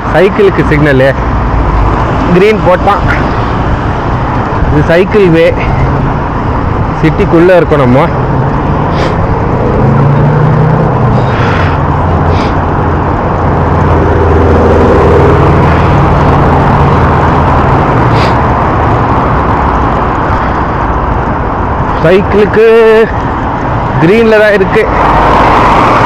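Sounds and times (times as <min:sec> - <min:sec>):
cars passing: 0:00.0 - 0:26.0
wind and road noise: 0:00.0 - 0:26.0.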